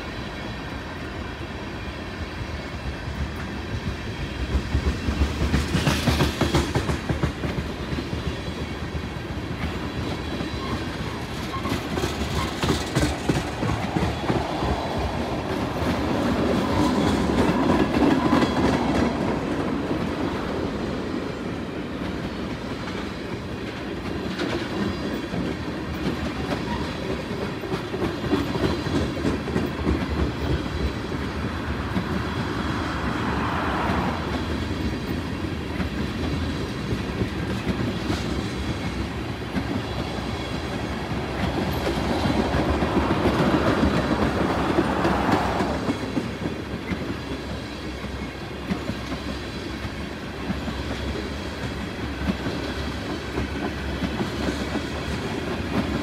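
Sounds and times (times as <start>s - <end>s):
train wheels clicking over rail joints: 1.8s - 56.0s.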